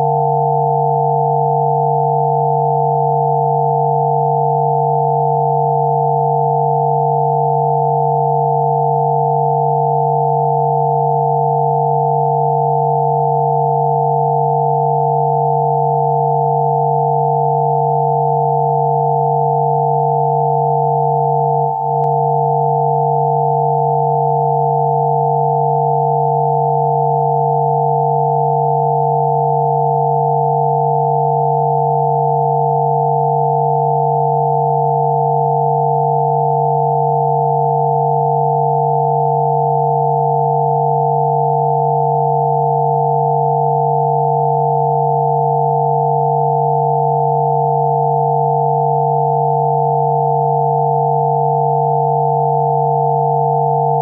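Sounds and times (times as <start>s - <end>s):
steady synthesized sine tones: 0.0s - 54.0s.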